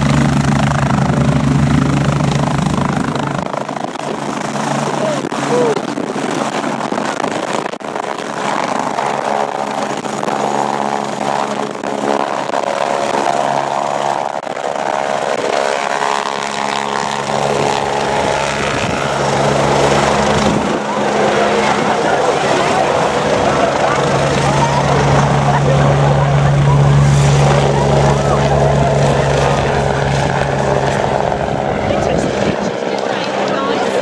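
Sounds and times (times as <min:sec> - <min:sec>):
jet engines roaring overhead: 0:00.0 - 0:34.0.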